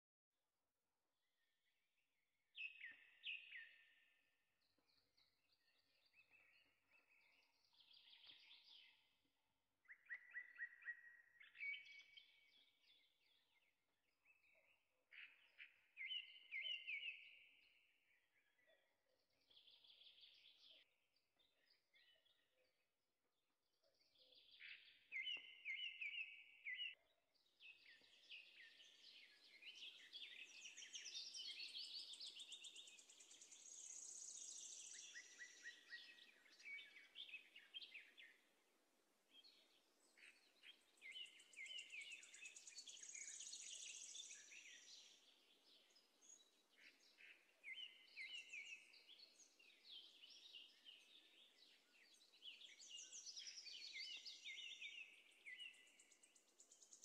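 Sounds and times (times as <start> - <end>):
faint birdsong: 0.6 - 57.0.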